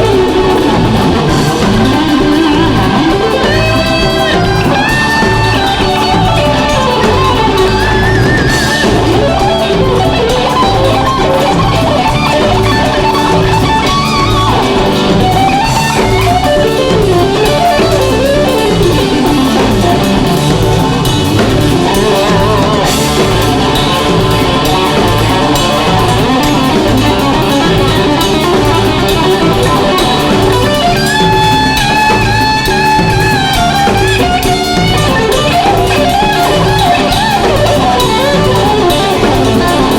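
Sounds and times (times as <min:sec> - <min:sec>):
drum kit: 0:00.0 - 0:39.9
electric guitar bending notes: 0:00.0 - 0:39.9
live rock band playing: 0:00.0 - 0:39.9.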